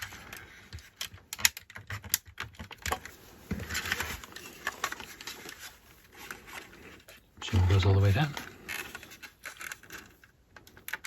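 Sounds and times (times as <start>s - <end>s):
plastic parts clicking: 0.0s - 7.2s, 8.2s - 11.0s.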